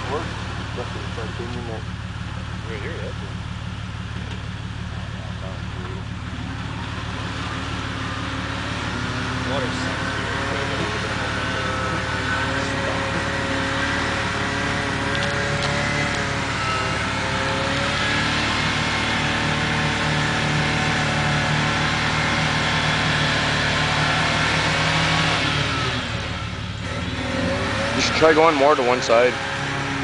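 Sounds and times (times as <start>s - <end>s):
engine running at high revs: 0.0s - 30.0s.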